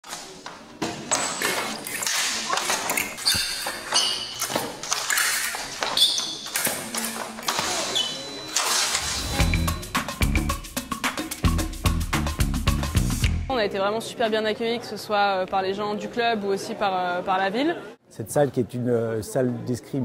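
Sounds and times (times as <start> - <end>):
voices in large hall: 0.0 - 10.1, 13.5 - 20.0.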